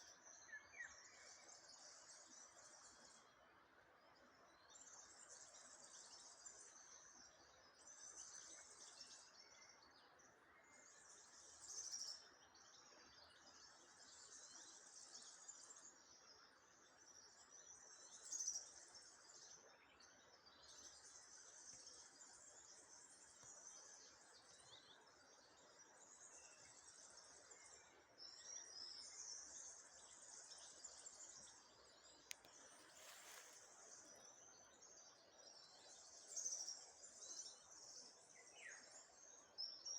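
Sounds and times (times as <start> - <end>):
small birds singing: 0.0 - 39.9.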